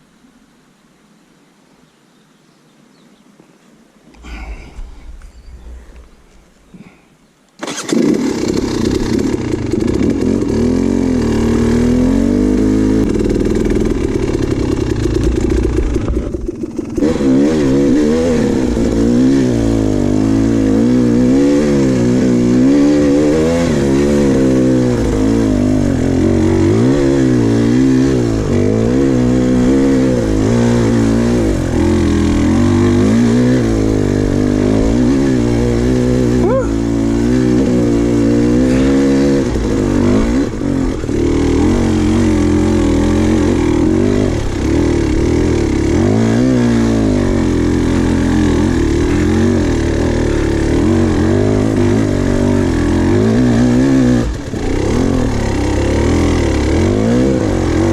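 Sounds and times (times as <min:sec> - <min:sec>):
dirt bike engine revving: 0:04.2 - 0:07.0, 0:07.6 - 0:57.9.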